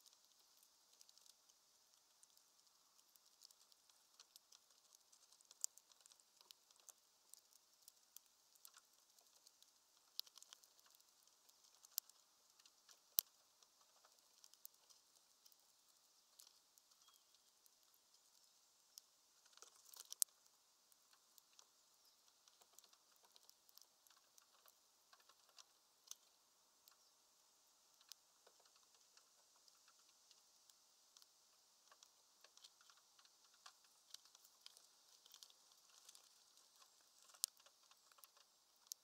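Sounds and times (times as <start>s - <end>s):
birds pecking seed: 0.0s - 39.0s.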